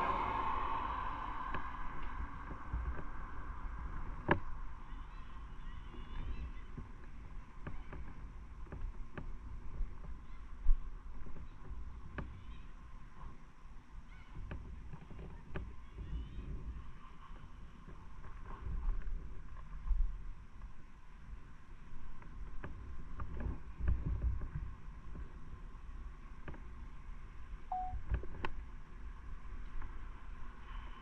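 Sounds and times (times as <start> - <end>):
wind and road rumble: 0.0 - 31.0.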